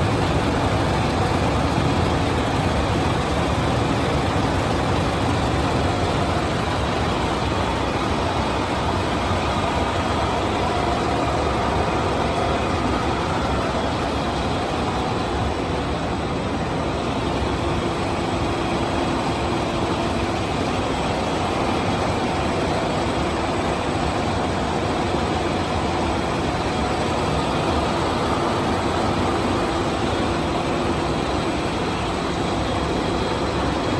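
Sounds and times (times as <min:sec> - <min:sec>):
production line machinery running: 0:00.0 - 0:33.9.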